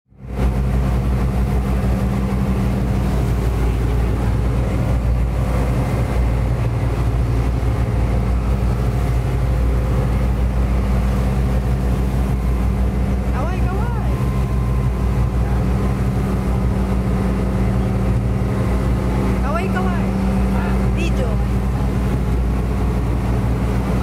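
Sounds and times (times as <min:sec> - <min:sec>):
boat engine droning: 0:00.1 - 0:24.0
water rushing past hull: 0:00.1 - 0:24.0.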